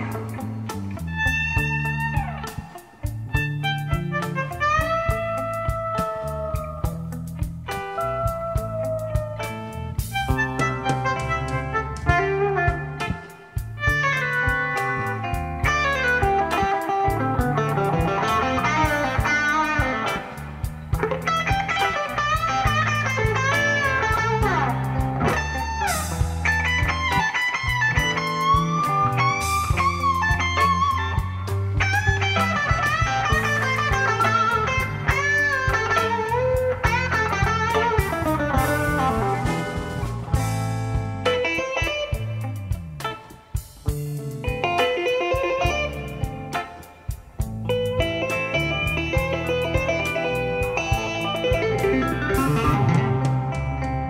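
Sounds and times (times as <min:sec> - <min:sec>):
bass guitar: 0:00.0 - 0:54.0
drums: 0:00.0 - 0:54.0
electric guitar bending notes: 0:00.0 - 0:54.0.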